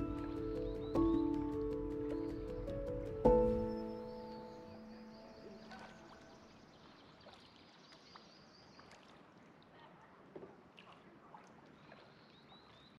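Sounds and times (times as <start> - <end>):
paddle splashes and drips: 0.0 - 13.0.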